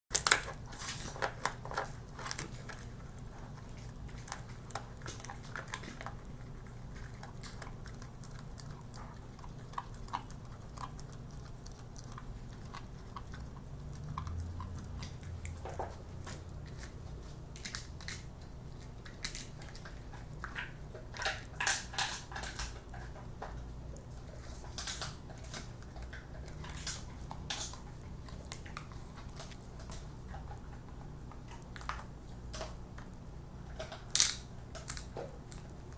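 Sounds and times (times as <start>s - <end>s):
dogs crunching and gnawing chews: 0.1s - 35.9s.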